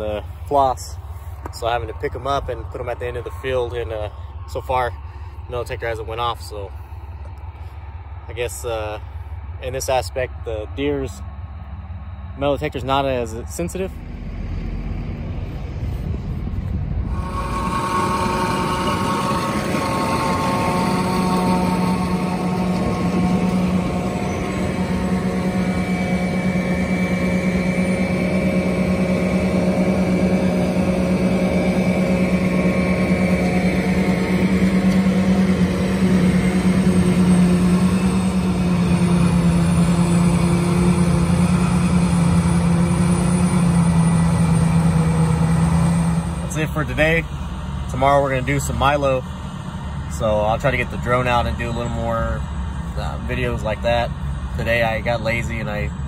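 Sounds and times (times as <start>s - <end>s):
forage harvester engine drone: 0.0s - 56.0s.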